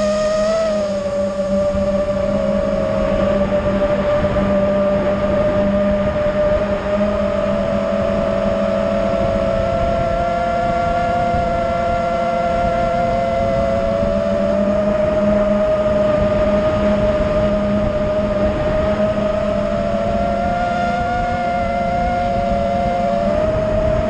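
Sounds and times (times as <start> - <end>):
drone motors whining: 0.0 - 24.0
rushing wind noise: 0.0 - 24.0.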